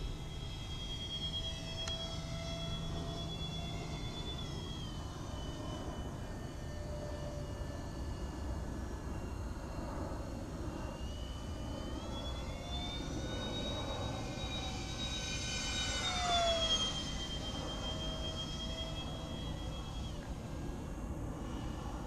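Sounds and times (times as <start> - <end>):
model airplane engine buzzing: 0.0 - 22.0.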